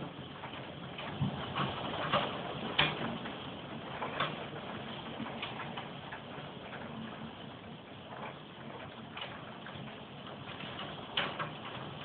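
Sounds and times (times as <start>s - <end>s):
raindrops tapping on hard surface: 0.0s - 12.0s.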